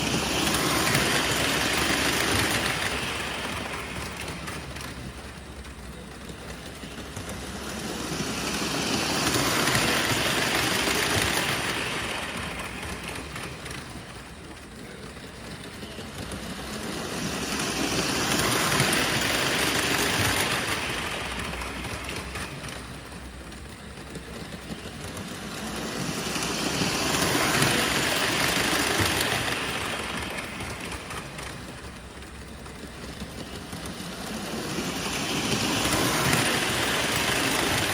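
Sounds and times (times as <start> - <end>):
model train rumbling: 0.0 - 37.9.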